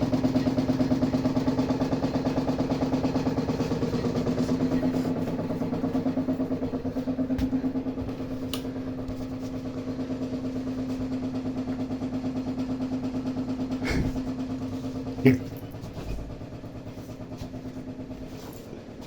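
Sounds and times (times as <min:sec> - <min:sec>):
water pipes humming: 0:00.0 - 0:19.0.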